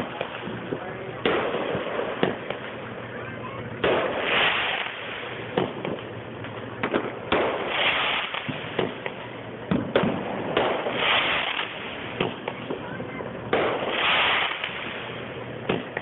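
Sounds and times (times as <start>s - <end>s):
firework bangs: 0.0s - 16.0s
fireworks hissing crackle: 0.0s - 16.0s.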